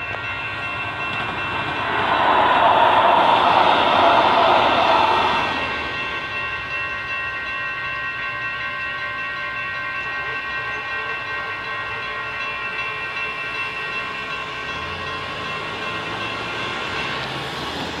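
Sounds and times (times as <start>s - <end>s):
light rail train departing: 0.0s - 18.0s
railroad crossing bells ringing: 0.0s - 18.0s.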